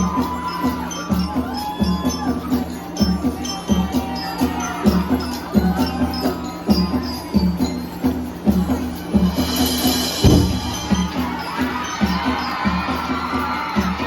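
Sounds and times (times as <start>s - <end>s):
heavy drumbeat: 0.0s - 14.0s
jingling percussion: 0.0s - 14.0s.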